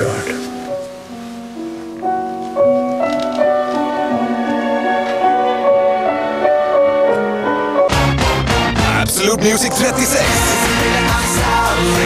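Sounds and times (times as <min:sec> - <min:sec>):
slow instrumental melody: 0:00.0 - 0:12.0.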